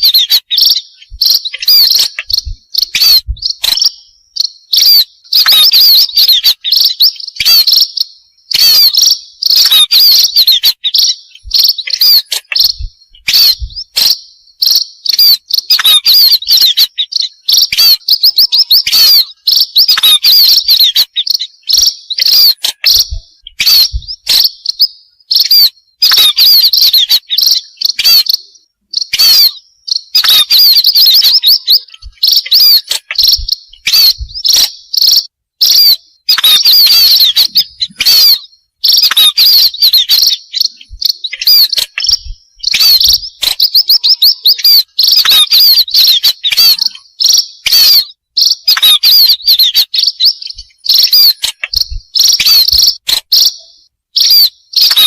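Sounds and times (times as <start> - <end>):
munias chattering chirps: 0.0 - 55.0.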